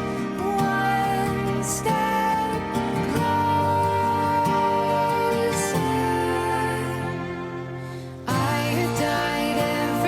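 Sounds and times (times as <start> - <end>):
background music with gliding melody: 0.0 - 10.0.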